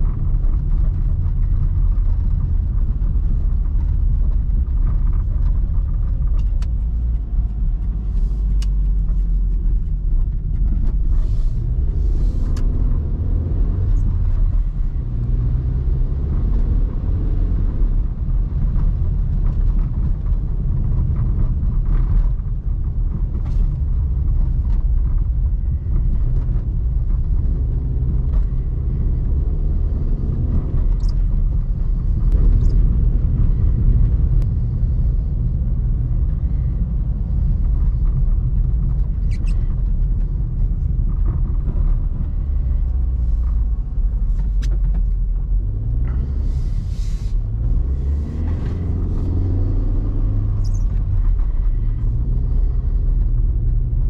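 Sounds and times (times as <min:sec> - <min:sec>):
car engine drone: 0:00.0 - 0:54.0
road rumble: 0:00.0 - 0:54.0.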